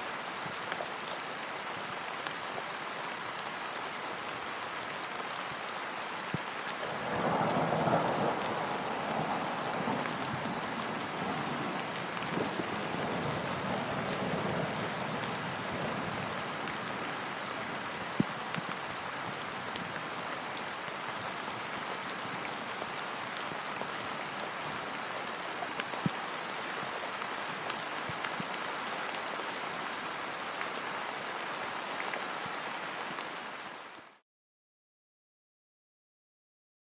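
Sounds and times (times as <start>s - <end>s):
rain on water: 0.0s - 34.2s.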